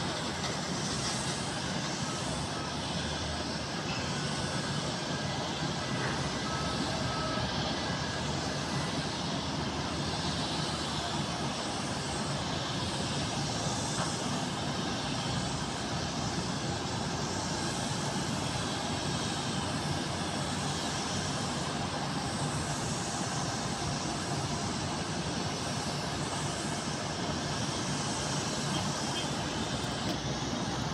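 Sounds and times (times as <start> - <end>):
jet airliner engines running: 0.0 - 30.9.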